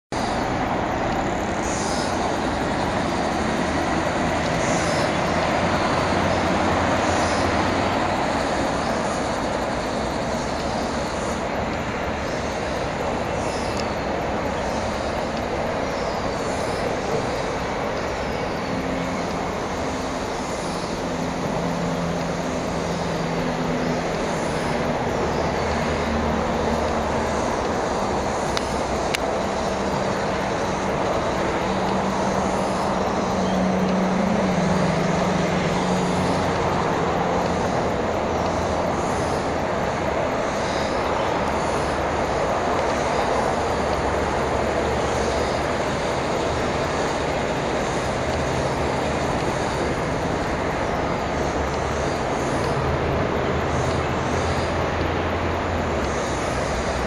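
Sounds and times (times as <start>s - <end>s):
distant road traffic rumble: 0.0s - 57.0s
low engine-like hum: 0.1s - 57.0s.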